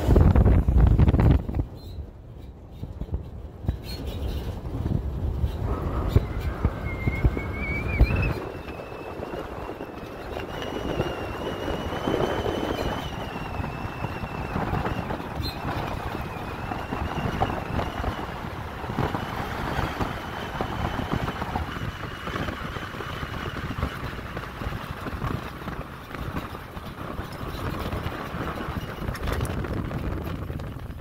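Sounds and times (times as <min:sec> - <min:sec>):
pickup truck driving on dirt: 0:00.0 - 0:31.0
wind on microphone: 0:00.0 - 0:31.0.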